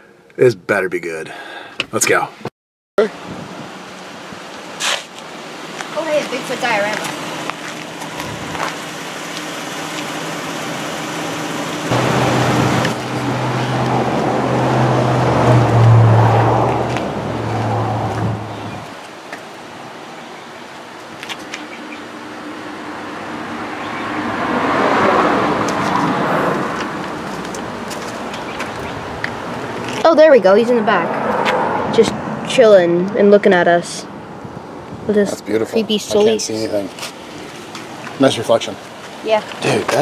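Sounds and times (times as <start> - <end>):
vehicles driving past: 3.0 - 40.0.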